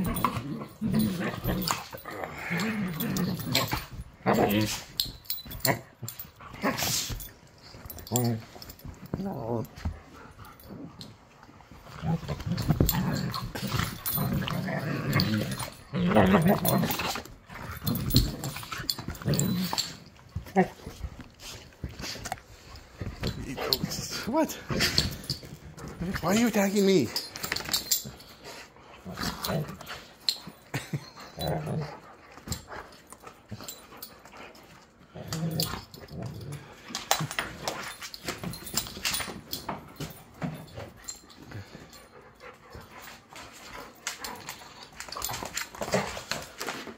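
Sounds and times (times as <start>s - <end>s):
dogs growling: 0.0s - 26.2s, 27.2s - 46.9s
scuffling clicks and knocks: 0.0s - 28.4s, 32.2s - 46.9s.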